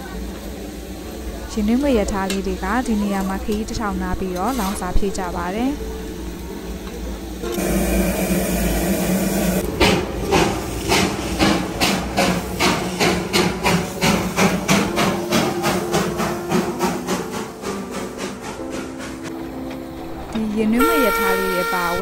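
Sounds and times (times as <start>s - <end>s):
steam hissing: 0.0s - 20.2s
steam locomotive exhaust beats: 0.0s - 22.0s.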